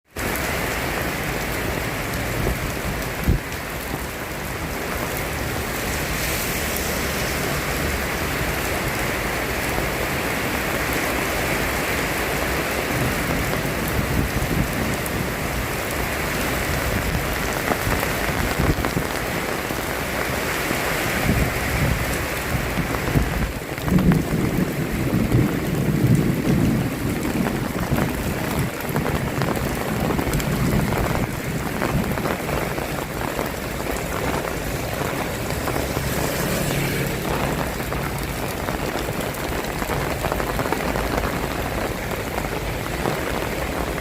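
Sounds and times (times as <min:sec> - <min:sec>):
steady rain: 0:00.1 - 0:44.0.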